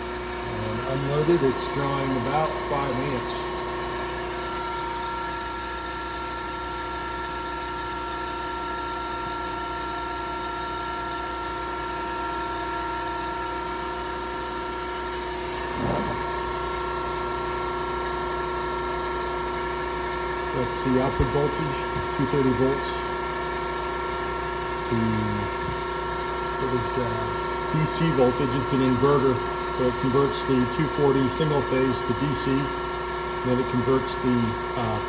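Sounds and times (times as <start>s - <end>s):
electric compressor motor humming: 0.0s - 35.0s.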